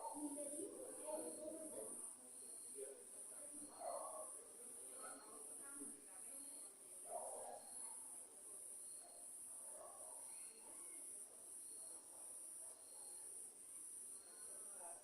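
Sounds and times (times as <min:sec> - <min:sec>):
lower insect chirp: 0:00.0 - 0:15.0.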